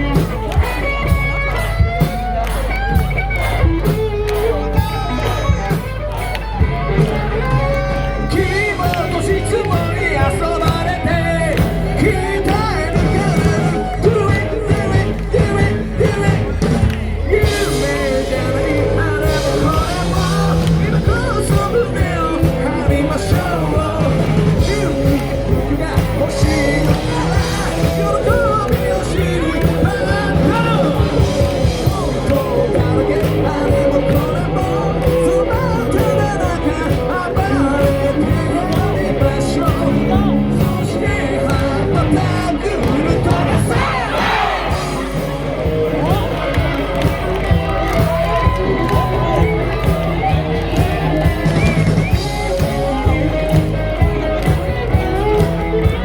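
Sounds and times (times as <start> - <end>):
live rock band playing: 0.0 - 56.0
lead vocal singing: 6.6 - 56.0.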